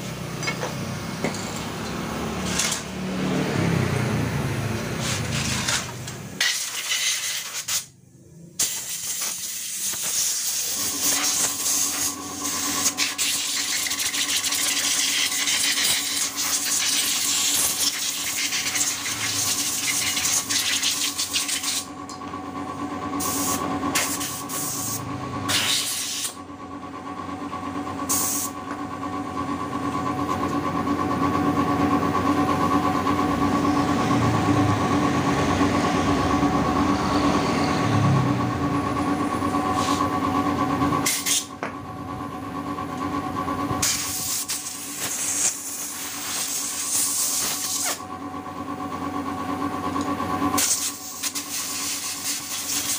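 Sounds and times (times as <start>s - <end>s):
machine hum: 0.0s - 6.7s, 8.0s - 52.9s.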